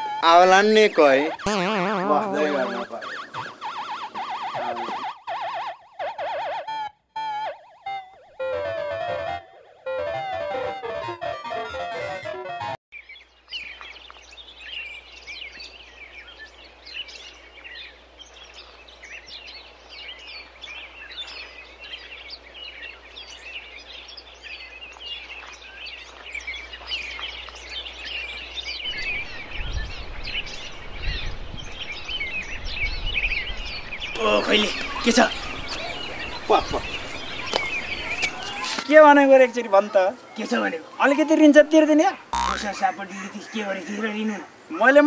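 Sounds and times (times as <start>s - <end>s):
birds chirping: 0.0s - 8.3s, 13.0s - 45.0s.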